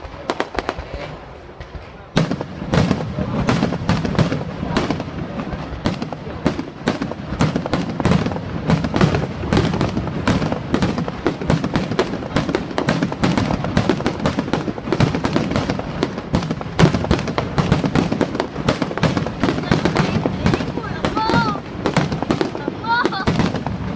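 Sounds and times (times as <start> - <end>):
fireworks bangs and cracks: 0.0 - 23.9.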